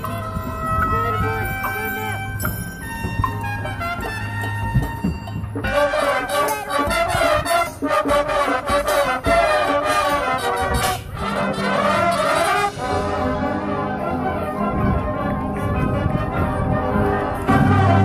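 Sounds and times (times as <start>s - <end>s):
marching band brass playing: 0.0s - 18.0s.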